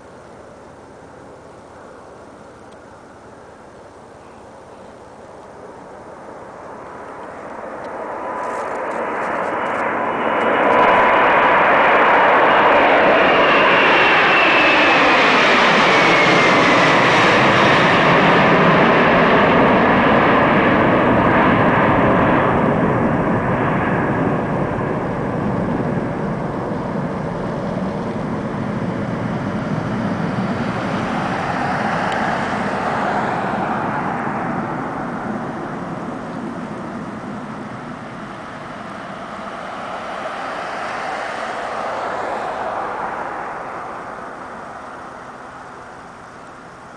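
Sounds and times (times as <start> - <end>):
high jet whine: 0.0 - 46.9
jet engines at takeoff: 0.0 - 46.9.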